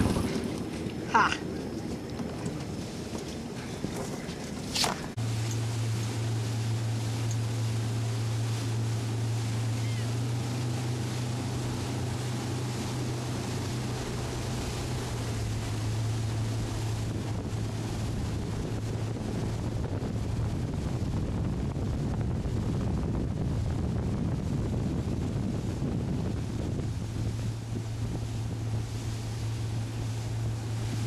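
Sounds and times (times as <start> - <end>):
boat motor humming: 0.0 - 31.0
water rushing in wake: 0.0 - 31.0
wind buffeting microphone: 0.0 - 31.0.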